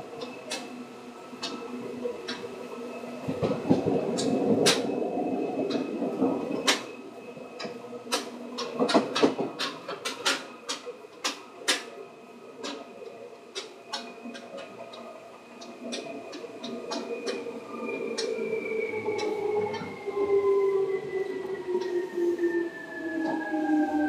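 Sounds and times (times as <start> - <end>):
train clicks and knocks: 0.0 - 20.4, 21.2 - 22.1
electric train humming: 0.0 - 24.0.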